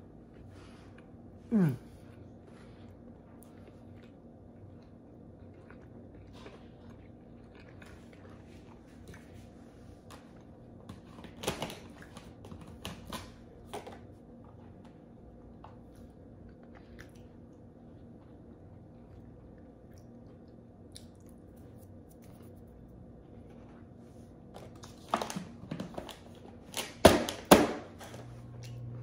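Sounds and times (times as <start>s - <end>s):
chewing crunchy cookies: 0.0s - 27.4s.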